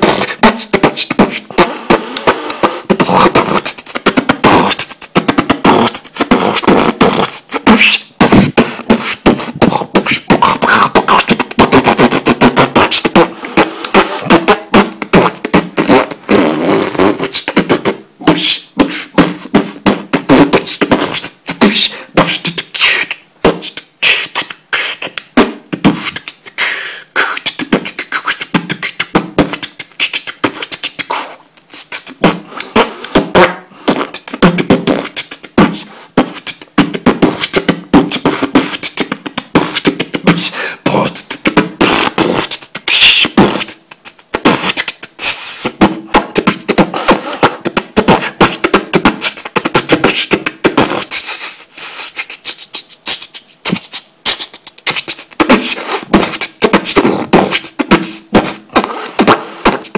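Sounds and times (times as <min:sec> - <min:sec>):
man beatboxing: 0:00.0 - 0:59.9.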